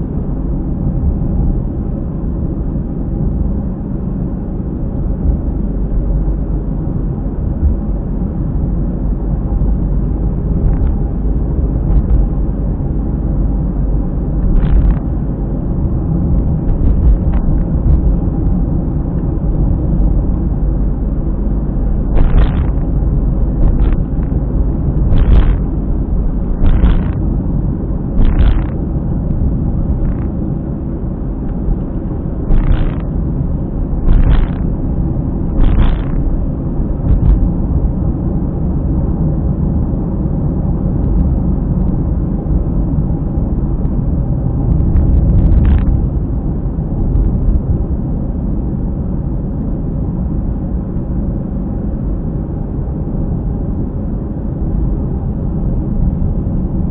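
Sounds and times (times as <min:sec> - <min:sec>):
car driving low rumble: 0:00.0 - 0:56.9.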